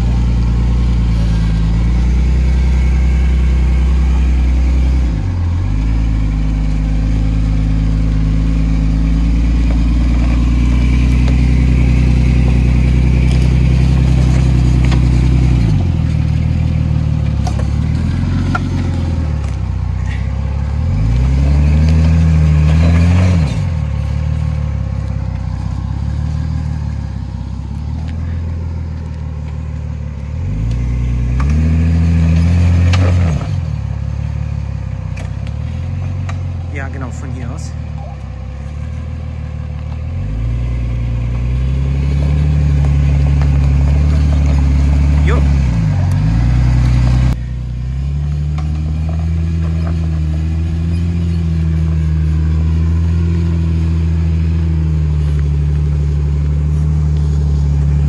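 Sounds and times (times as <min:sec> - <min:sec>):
engine revving at crawling speed: 0:00.0 - 0:58.0.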